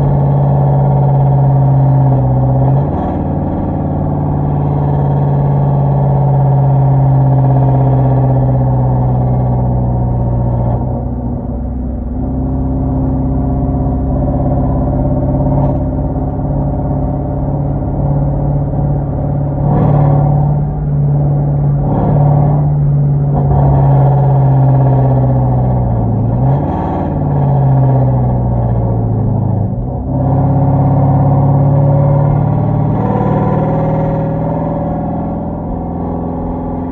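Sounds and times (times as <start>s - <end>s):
car engine droning: 0.0s - 36.9s.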